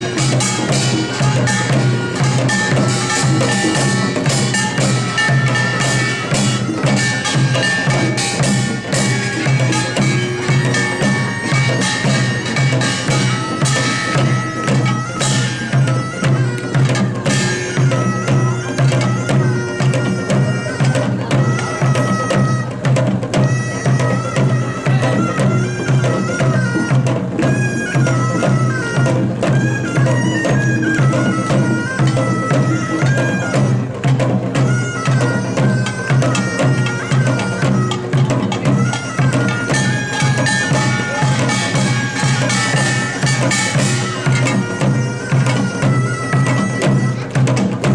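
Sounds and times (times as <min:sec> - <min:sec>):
drums and gongs beat: 0:00.0 - 0:47.9
shawm melody: 0:00.0 - 0:47.9.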